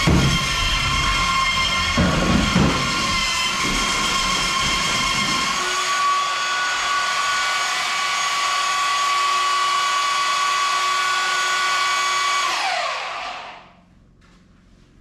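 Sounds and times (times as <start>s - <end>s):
belt sander whining: 0.0s - 13.5s.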